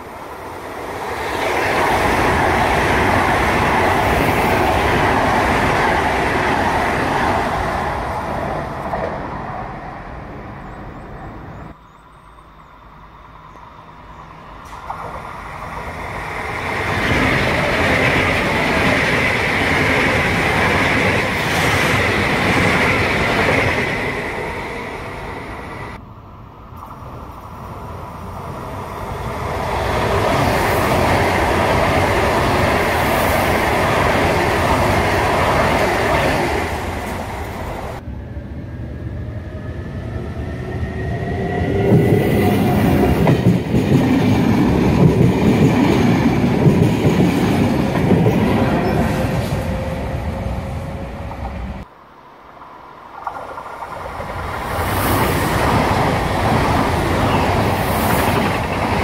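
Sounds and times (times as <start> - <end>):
trains passing with rolling roar: 0.0 - 59.0.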